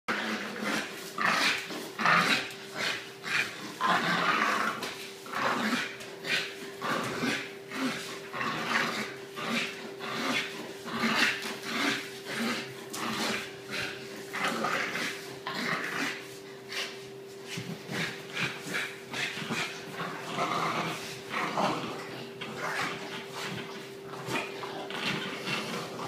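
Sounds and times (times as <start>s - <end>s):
dog growling and grunting: 0.1s - 17.0s, 17.6s - 26.0s
steady hum: 0.1s - 26.0s.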